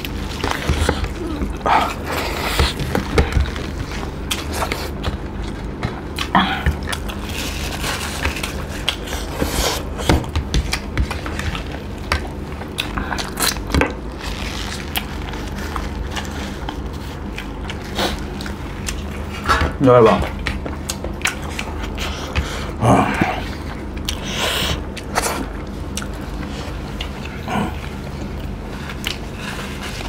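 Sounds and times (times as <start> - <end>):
biting and chewing food: 0.0 - 30.0
steady low hum: 0.0 - 30.0.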